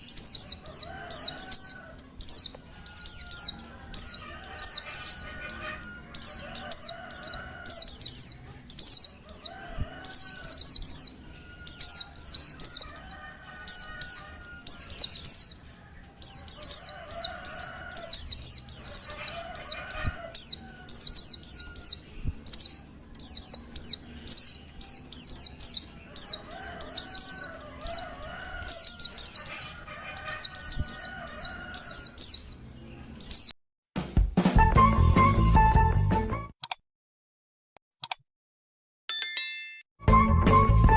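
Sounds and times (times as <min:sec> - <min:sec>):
bird high thin chirps: 0:00.0 - 0:33.6.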